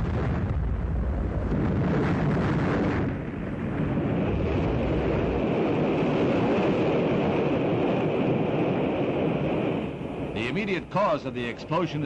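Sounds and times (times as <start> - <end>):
rocket rumbling roar: 0.0 - 12.0.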